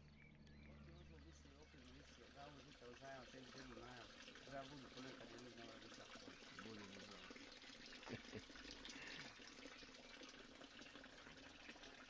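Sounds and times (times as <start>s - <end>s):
faint running water hiss: 0.0s - 12.0s.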